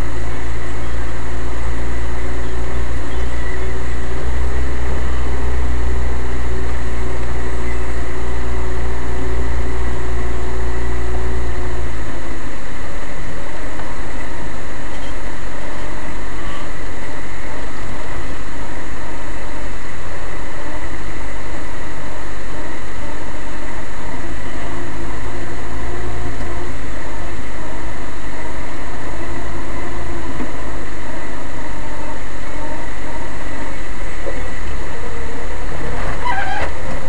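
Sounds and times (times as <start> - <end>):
off-road vehicle engine droning: 0.0 - 37.0
road noise: 0.0 - 37.0.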